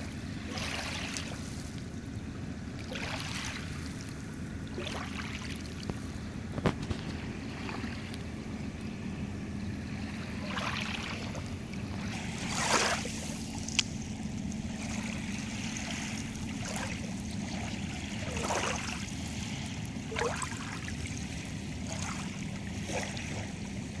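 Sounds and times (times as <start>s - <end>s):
waves washing onto shore: 0.0s - 24.0s.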